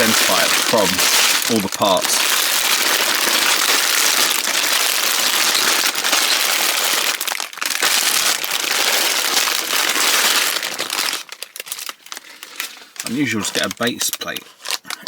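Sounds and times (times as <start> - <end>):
plastic bags crinkling: 0.0 - 15.0
small plastic parts rattling: 0.0 - 15.0.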